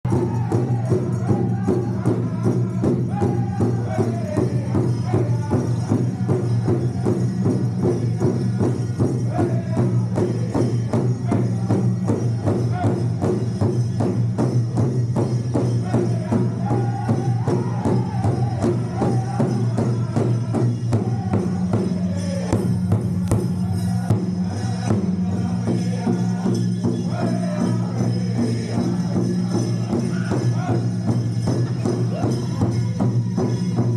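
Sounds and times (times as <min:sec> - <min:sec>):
group singing: 0:00.1 - 0:13.4, 0:15.5 - 0:33.9
steady drumbeat: 0:00.1 - 0:33.9.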